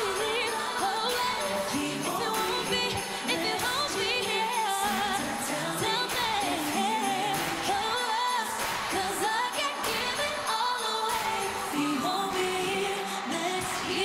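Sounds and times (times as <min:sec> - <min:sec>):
pop song backing with beat: 0:00.0 - 0:14.0
woman singing into microphone: 0:00.0 - 0:14.0.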